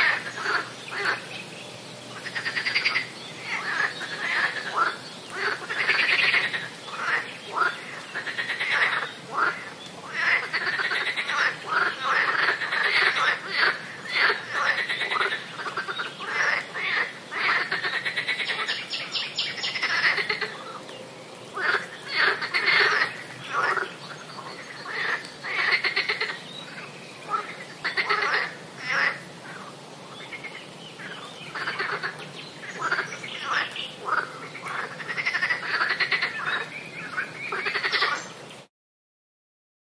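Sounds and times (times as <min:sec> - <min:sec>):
frogs croaking: 0:00.0 - 0:38.4.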